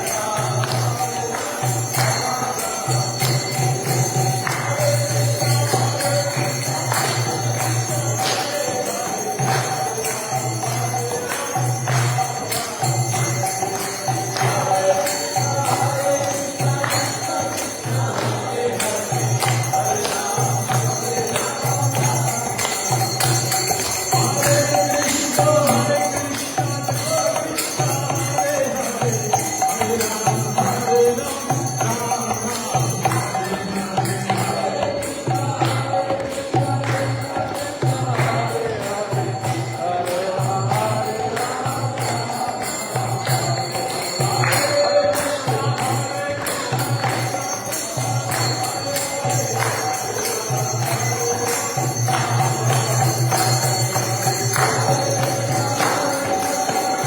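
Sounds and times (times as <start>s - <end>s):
jingling hand cymbals: 0.0s - 57.0s.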